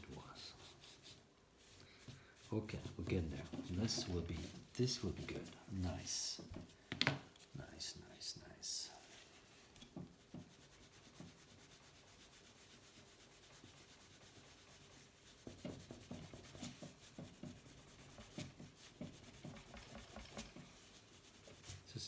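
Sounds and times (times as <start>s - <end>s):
cloth rubbing on toy car: 0.0s - 6.7s, 8.7s - 22.0s.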